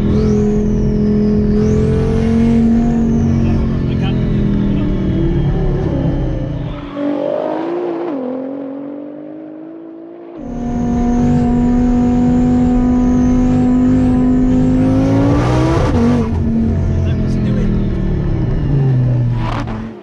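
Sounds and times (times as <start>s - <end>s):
car engine droning inside cabin: 0.0s - 6.9s, 10.4s - 20.0s
cars driving off: 0.0s - 20.0s
engine revving: 0.0s - 20.0s.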